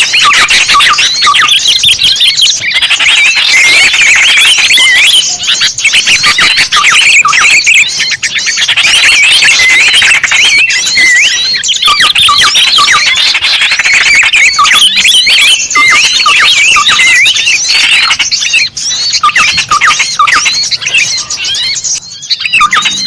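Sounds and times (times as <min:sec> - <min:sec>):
chorus of songbirds chirping: 0:00.0 - 0:23.0.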